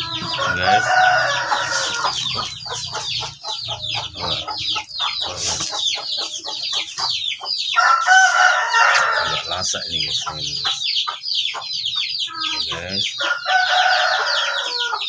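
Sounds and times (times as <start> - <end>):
chicken drawn-out call: 0.0 - 10.8, 11.6 - 15.0
chickens chirping: 0.0 - 15.0.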